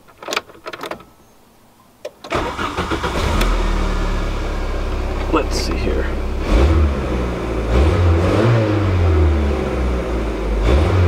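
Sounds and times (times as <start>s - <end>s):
car engine cranking and idling: 2.1s - 11.0s.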